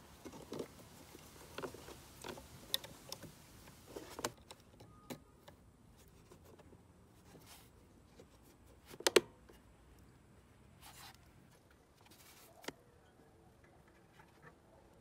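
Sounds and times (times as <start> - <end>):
rustling of hands and parts: 0.0 - 15.0.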